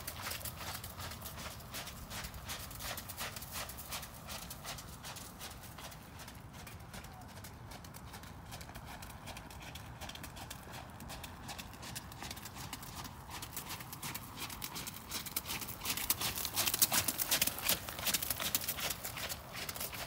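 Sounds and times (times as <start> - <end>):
horse hoofbeats on wet gravel: 0.0 - 20.0.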